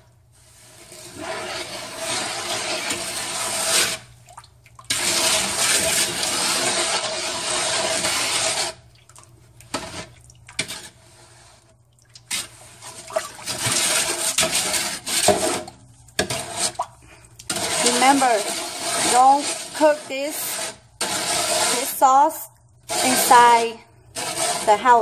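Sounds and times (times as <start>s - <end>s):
water running: 0.7s - 25.0s.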